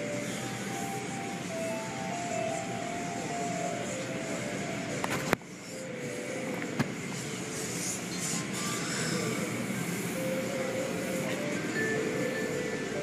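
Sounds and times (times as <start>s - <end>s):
car wash water spray and machinery: 0.0s - 13.0s.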